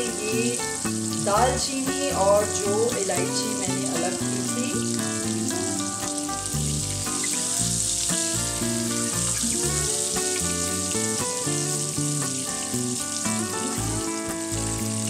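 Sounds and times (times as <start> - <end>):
background music: 0.0 - 15.0
butter sizzling in a pan: 0.0 - 15.0.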